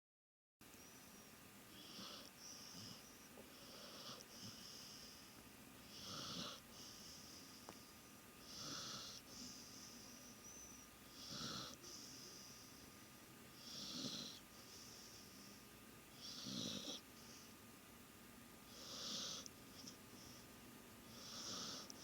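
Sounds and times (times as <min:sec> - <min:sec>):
dog snoring faintly: 0:01.7 - 0:17.6, 0:18.6 - 0:22.0.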